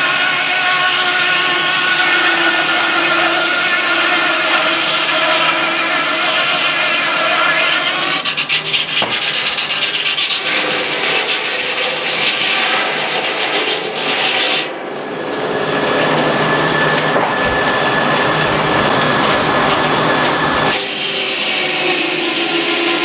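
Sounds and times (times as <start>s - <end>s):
saw blade cutting log: 0.0s - 14.7s, 16.0s - 23.0s
mill engine running: 0.0s - 23.0s.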